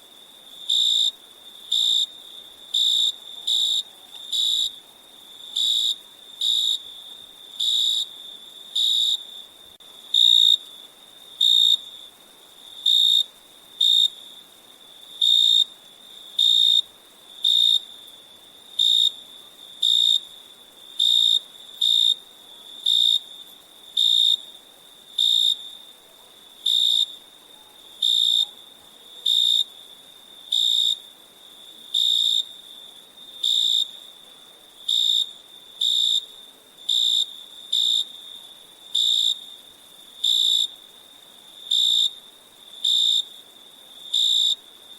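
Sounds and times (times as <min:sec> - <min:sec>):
cricket chirping: 0:00.0 - 0:44.9.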